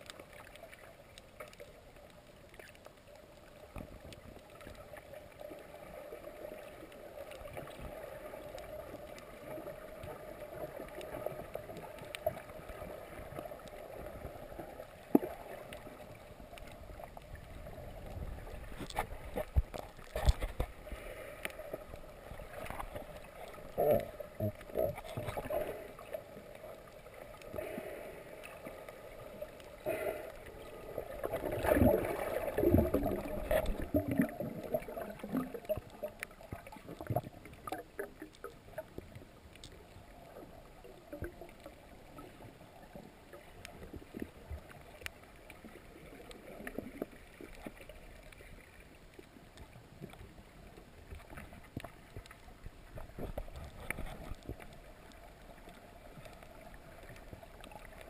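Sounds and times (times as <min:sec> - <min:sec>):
faint clicks: 0:00.0 - 0:58.0
muffled underwater water movement: 0:00.0 - 0:58.0.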